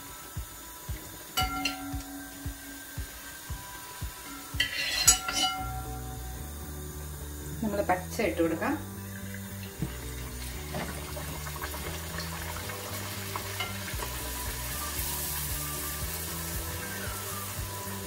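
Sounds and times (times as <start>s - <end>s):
dough sizzling in hot oil: 0.0s - 18.0s
skimmer ticking against pan: 0.3s - 6.6s, 7.6s - 18.0s.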